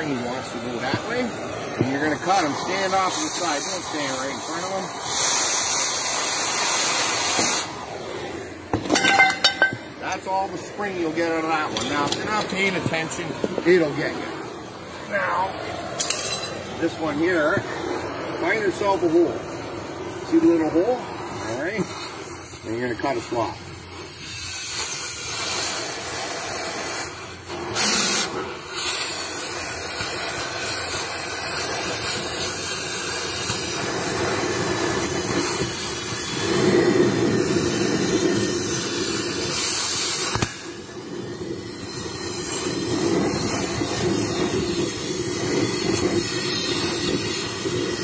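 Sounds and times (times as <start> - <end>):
gas cutting torch flame: 0.0 - 48.0.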